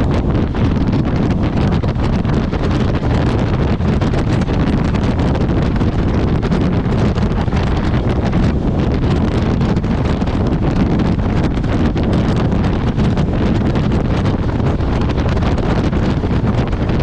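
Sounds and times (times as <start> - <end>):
motorcycle running: 0.0 - 17.0
wind buffeting microphone: 0.0 - 17.0.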